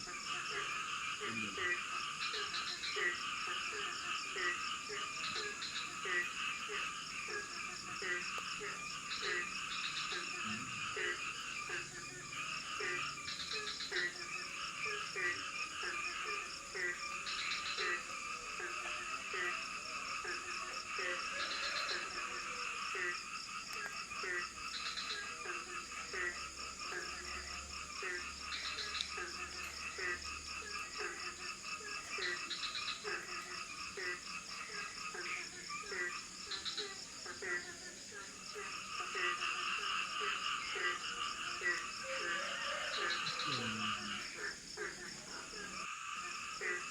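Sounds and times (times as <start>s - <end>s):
frogs croaking: 0.0s - 46.9s
high insect chirps: 0.0s - 46.9s
insects droning: 0.0s - 46.9s.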